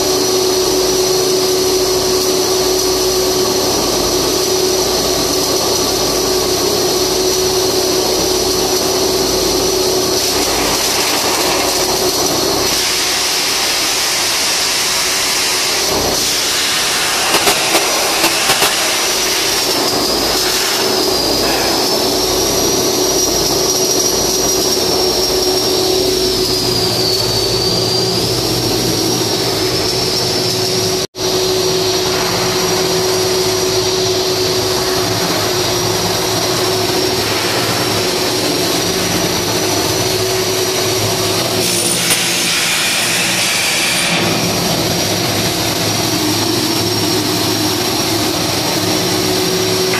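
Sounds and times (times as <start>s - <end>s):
high whine: 0.0s - 49.9s
machine drone: 0.0s - 49.9s
welding hiss: 0.0s - 49.9s.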